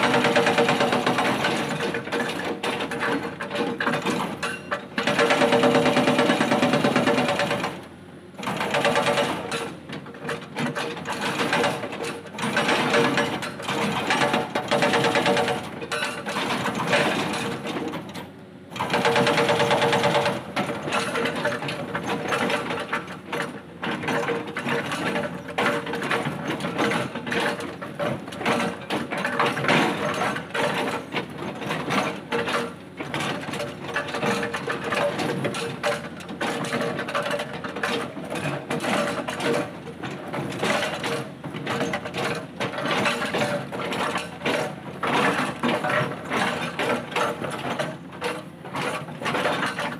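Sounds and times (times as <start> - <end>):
hydraulic breaker hammering rock: 0.0 - 49.9.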